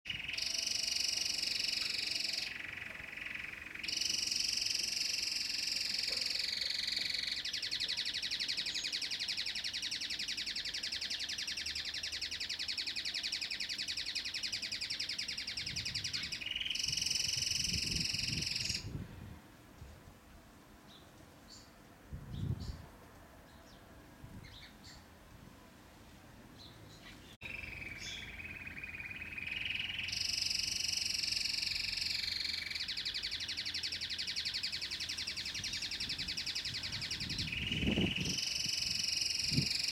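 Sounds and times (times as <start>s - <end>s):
canary singing trills: 0.1s - 19.0s, 26.6s - 39.9s.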